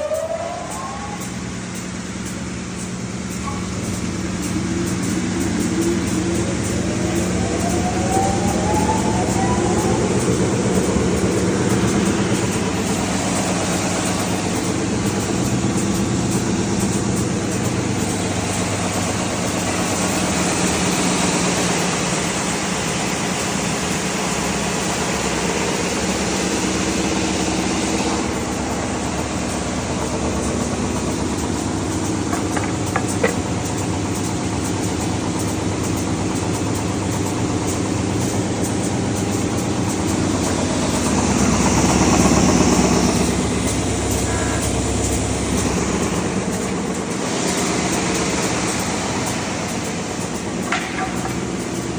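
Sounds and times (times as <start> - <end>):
belt sanding machine running: 0.0 - 51.9.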